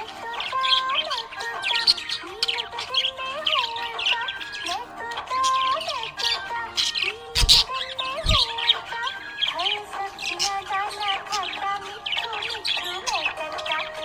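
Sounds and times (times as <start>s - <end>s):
budgerigars chirping: 0.0s - 14.0s.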